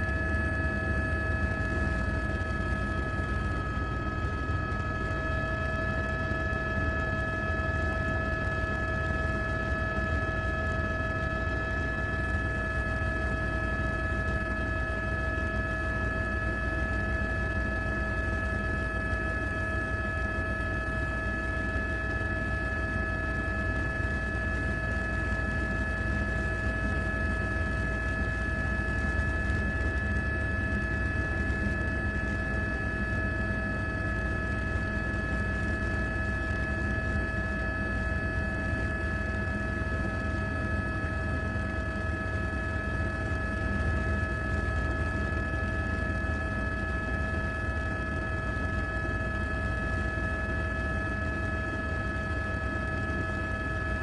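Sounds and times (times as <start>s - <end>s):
mechanical hum with whining tones: 0.0s - 54.0s.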